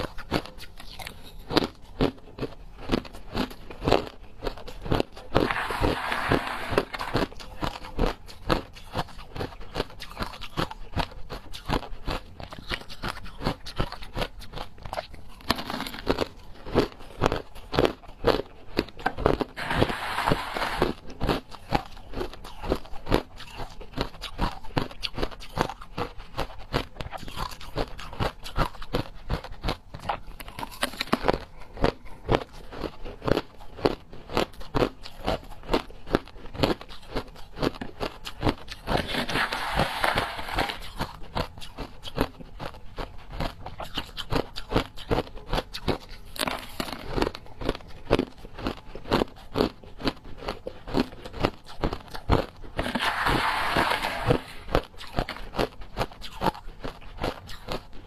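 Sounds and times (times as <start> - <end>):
crushed ice being chewed: 0.0 - 58.0.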